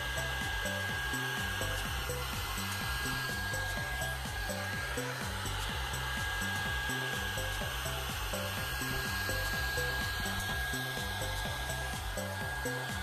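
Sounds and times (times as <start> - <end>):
background music with bass: 0.0 - 13.0
hair dryer brush blowing: 0.0 - 13.0.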